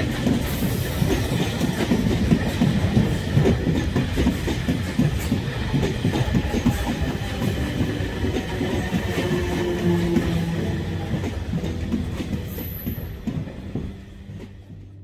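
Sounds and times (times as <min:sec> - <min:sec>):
electric train running: 0:00.0 - 0:15.0
freight train wheels clattering: 0:00.0 - 0:15.0.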